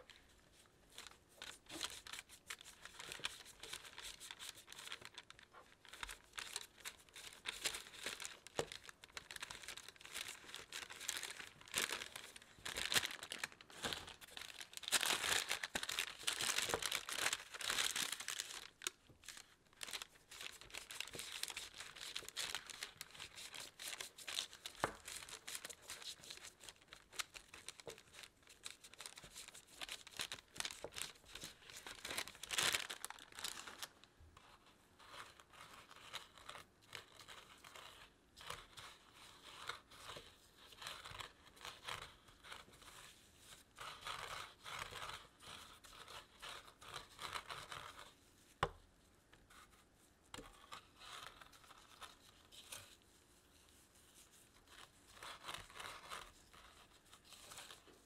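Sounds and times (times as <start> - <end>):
parchment paper crinkling: 0.0 - 48.7, 49.4 - 58.0.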